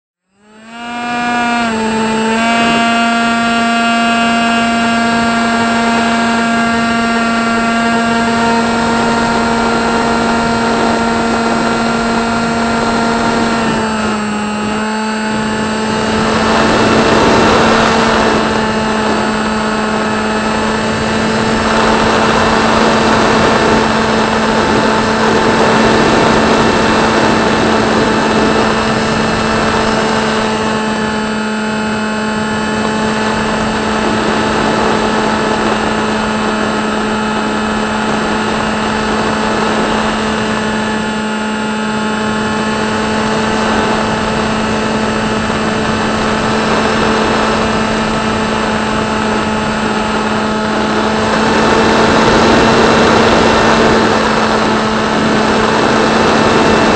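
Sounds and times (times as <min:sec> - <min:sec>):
electric motor and propeller whine: 0:00.2 - 0:56.9.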